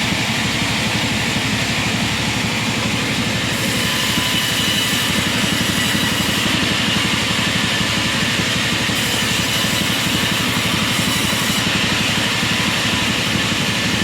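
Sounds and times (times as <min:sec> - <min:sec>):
log-cutting saw machine running: 0:00.0 - 0:14.0.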